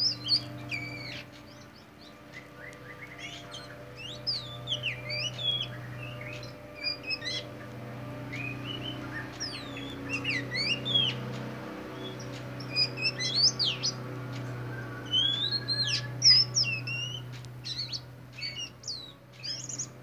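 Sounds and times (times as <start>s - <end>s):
bird singing whistled phrases: 0.0s - 7.6s, 8.3s - 11.2s, 11.9s - 19.9s.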